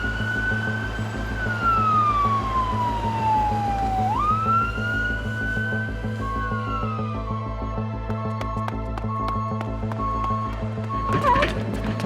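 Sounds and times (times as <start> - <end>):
emergency siren wailing: 0.0 - 12.0
low pulsing rumble: 0.0 - 12.0.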